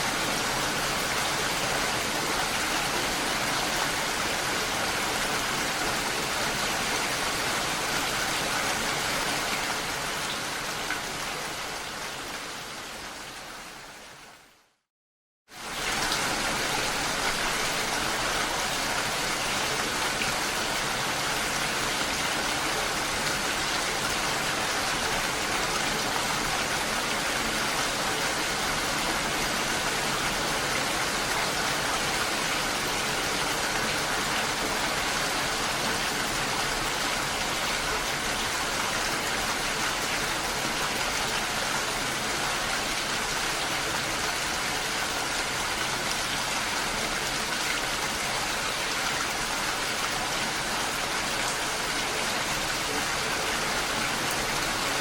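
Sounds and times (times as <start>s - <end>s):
steady rain falling: 0.0s - 14.8s, 15.5s - 55.0s.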